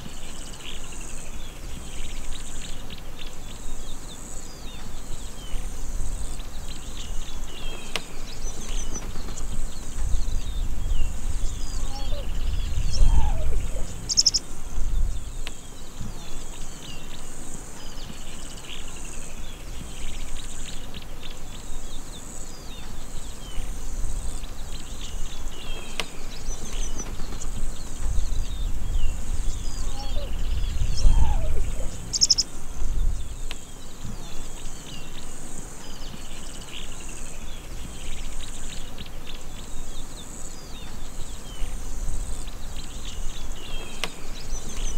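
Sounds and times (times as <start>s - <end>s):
birds chirping: 0.0s - 44.9s
high insect buzz: 0.0s - 44.9s.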